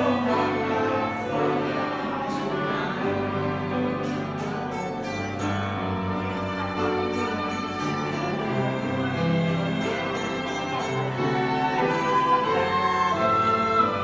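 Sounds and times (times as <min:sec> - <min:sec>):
keyboard: 0:00.0 - 0:14.0
violin melody: 0:00.0 - 0:14.0.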